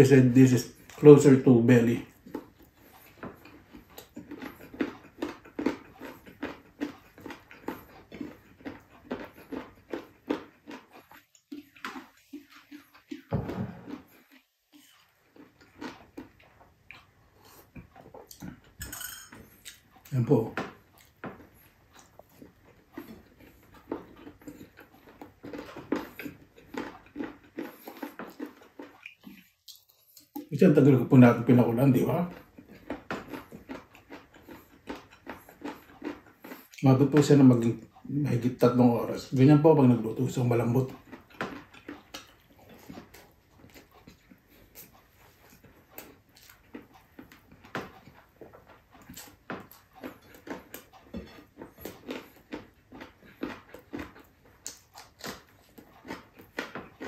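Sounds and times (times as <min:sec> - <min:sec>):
wet chewing with lip smacks: 0:00.5 - 0:57.0.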